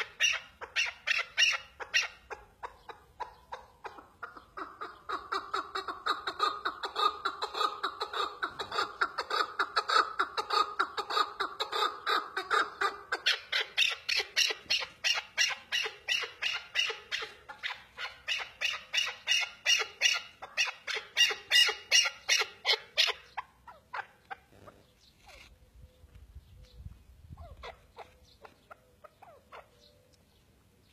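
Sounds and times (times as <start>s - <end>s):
partridge clucking calls: 0.0s - 30.0s.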